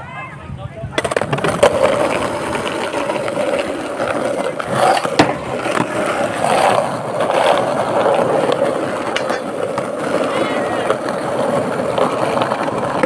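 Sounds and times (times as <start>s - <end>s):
skateboard wheels on concrete: 0.0s - 13.0s.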